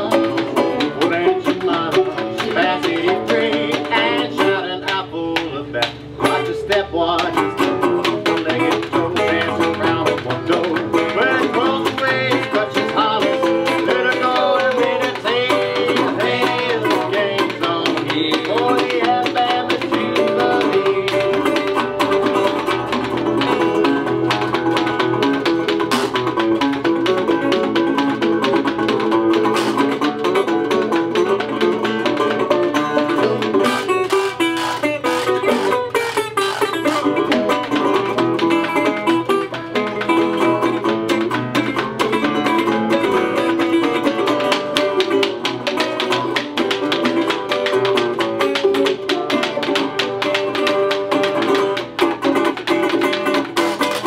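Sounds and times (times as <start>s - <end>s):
banjo: 0.0s - 54.0s
resonator guitar picking: 0.0s - 54.0s
washboard clicking rhythm: 0.0s - 54.0s.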